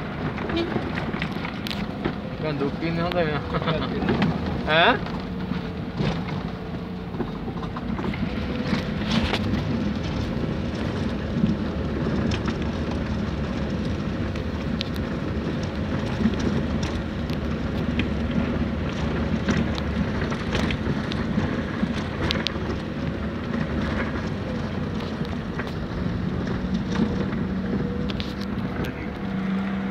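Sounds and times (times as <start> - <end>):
car engine and tyre noise: 0.0 - 29.9
small clicks and rattles: 0.2 - 29.4.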